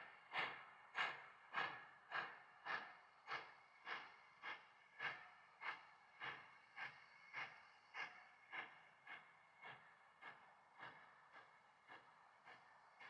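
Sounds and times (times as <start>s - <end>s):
steam locomotive chuffing: 0.2s - 13.0s.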